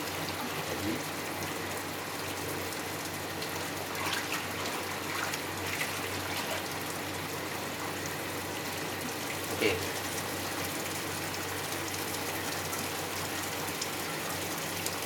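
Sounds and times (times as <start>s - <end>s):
water running into washing machine tub: 0.0s - 15.0s.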